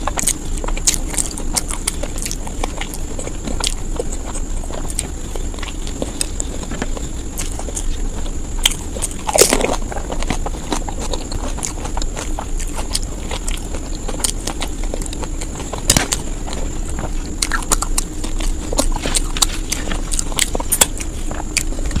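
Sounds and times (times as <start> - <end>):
background hum: 0.0 - 22.0
person eating crunchy food: 0.0 - 22.0.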